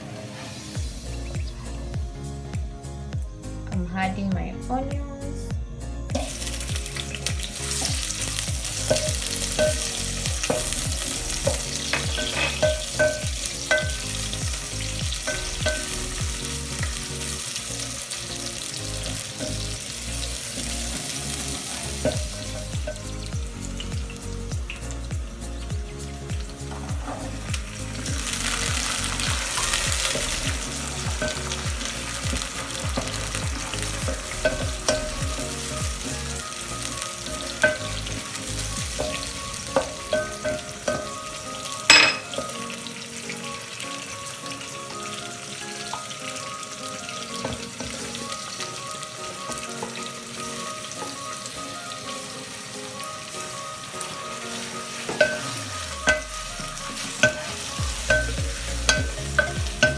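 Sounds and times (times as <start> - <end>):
food frying in hot oil: 6.1 - 59.9.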